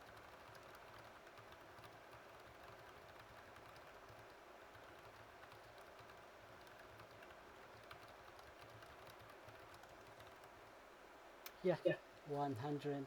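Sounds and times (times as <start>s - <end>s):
rapid typing on keyboard: 0.0s - 10.7s.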